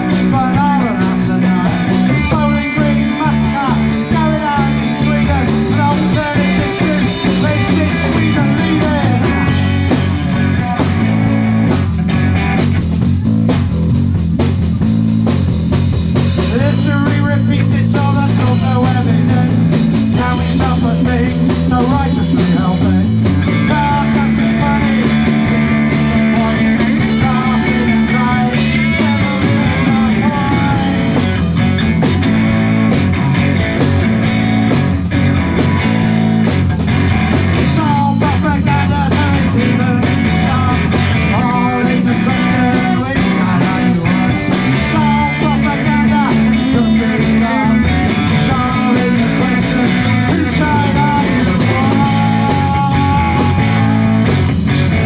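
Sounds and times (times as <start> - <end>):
bass guitar: 0.0 - 55.0
drums and percussion: 0.0 - 55.0
electric guitar lead: 0.0 - 55.0.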